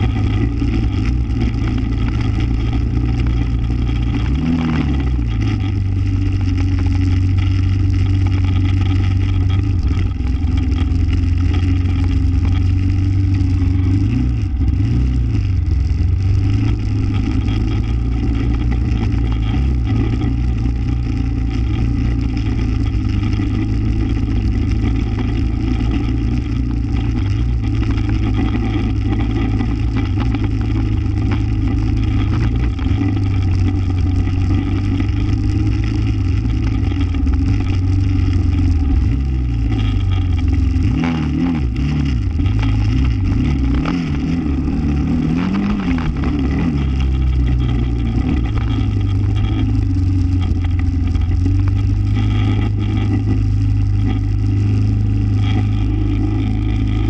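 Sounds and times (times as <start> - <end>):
atv engine running and revving: 0.0 - 57.0.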